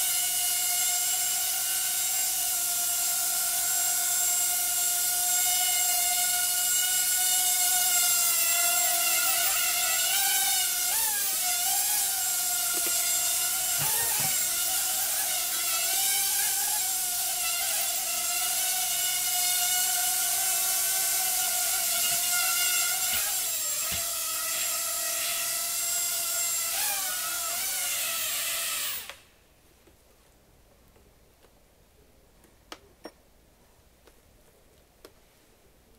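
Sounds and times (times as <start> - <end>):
quadcopter motors whining: 0.0 - 29.3.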